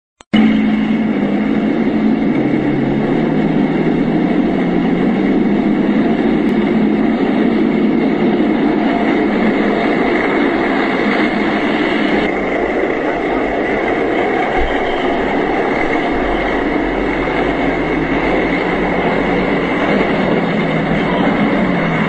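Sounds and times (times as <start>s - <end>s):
tank diesel engine: 0.3s - 22.0s.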